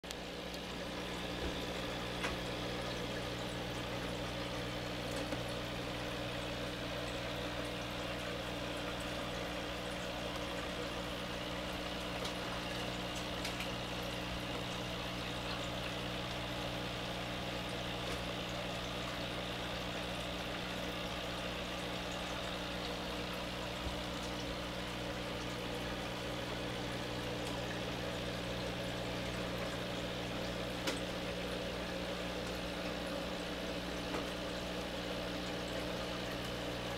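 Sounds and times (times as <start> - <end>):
low electrical hum: 0.0 - 36.9
aquarium air stone bubbling: 0.1 - 36.9.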